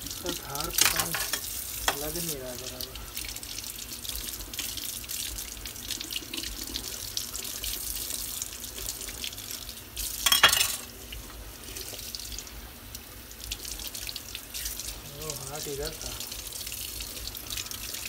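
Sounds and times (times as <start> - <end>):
faucet water running into sink: 0.0 - 18.0.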